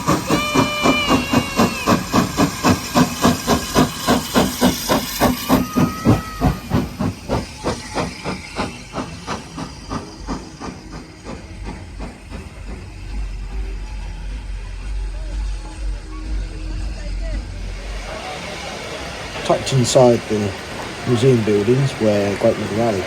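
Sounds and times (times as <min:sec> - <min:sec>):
steam locomotive exhaust beats: 0:00.0 - 0:23.0.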